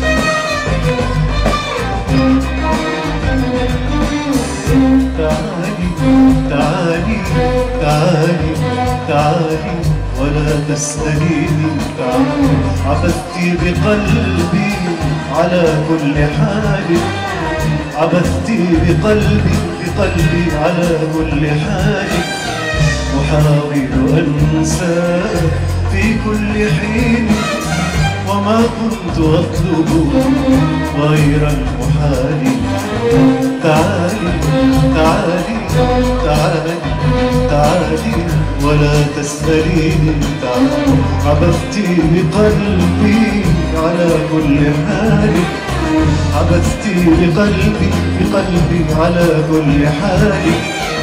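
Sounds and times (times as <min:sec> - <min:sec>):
band accompaniment with bass: 0:00.0 - 0:51.0
ensemble of ouds and violins: 0:00.0 - 0:51.0
man singing into a microphone: 0:02.1 - 0:51.0.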